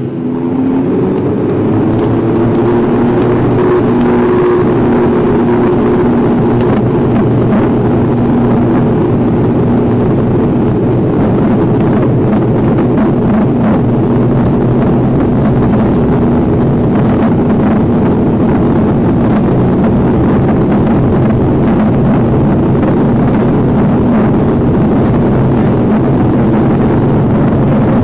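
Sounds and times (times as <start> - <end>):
constant low hum: 0.0 - 28.0
turboprop engines running: 0.0 - 28.0.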